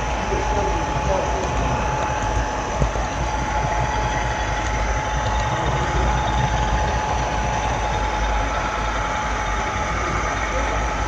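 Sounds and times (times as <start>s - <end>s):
small wheels rumbling on rail: 0.0s - 11.0s.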